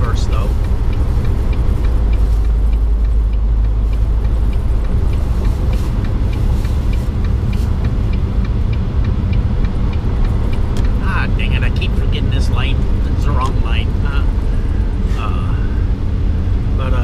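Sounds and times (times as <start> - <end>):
faint regular ticking: 0.0 - 17.0
truck engine and road rumble: 0.0 - 17.0.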